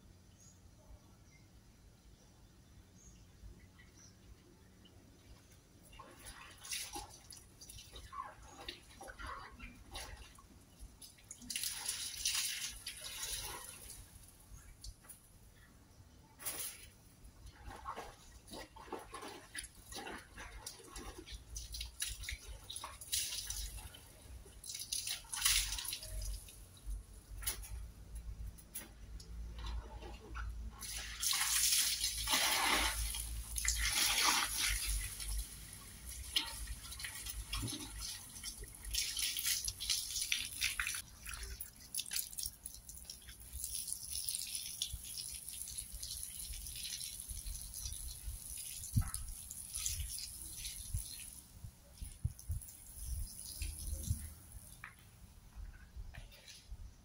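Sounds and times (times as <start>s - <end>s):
water splashing in a bucket: 5.8s - 15.1s, 16.4s - 55.0s.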